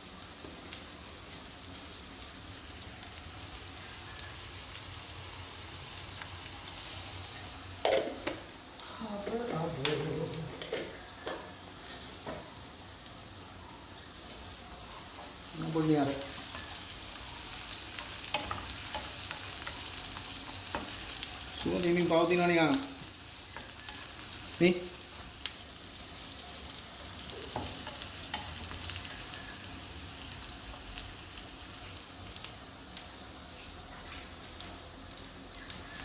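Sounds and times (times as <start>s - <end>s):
onions sizzling in oil: 0.0s - 36.0s.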